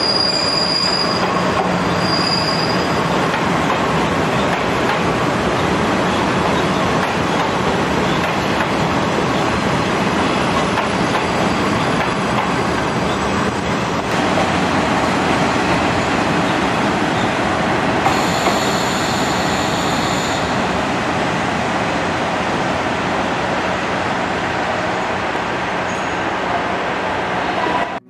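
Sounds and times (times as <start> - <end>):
diesel railcar rumbling: 0.0 - 28.0.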